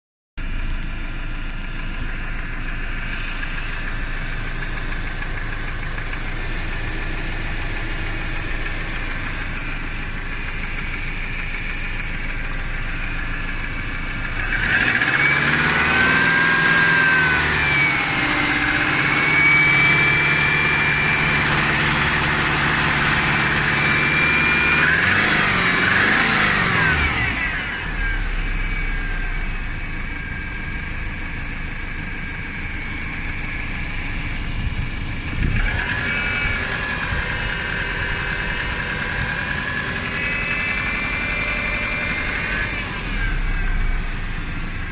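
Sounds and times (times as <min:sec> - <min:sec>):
engine running: 0:00.4 - 0:44.9.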